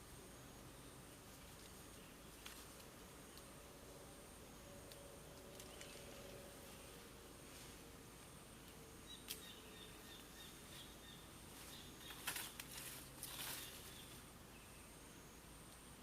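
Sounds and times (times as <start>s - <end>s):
faint high insect whine: 0.0s - 16.0s.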